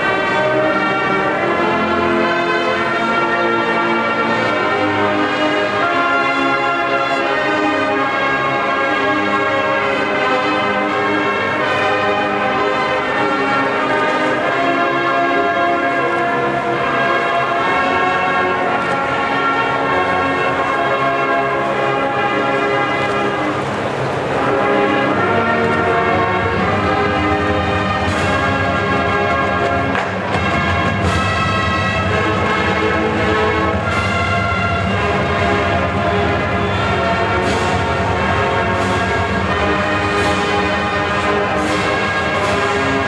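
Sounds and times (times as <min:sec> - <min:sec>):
marching band brass chords: 0:00.0 - 0:43.0.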